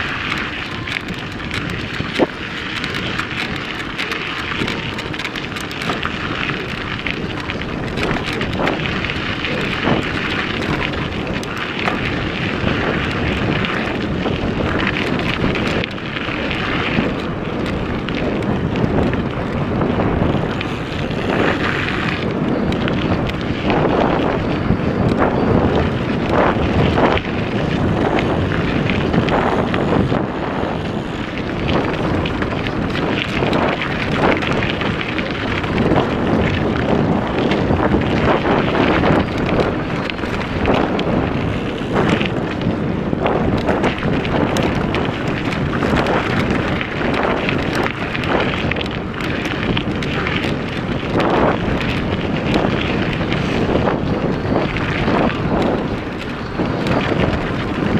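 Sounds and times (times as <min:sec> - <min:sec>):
bike knocking and rattling: 0:00.0 - 0:57.9
tyres rolling over dirt: 0:00.0 - 0:57.9
wind rushing over microphone: 0:00.0 - 0:57.9.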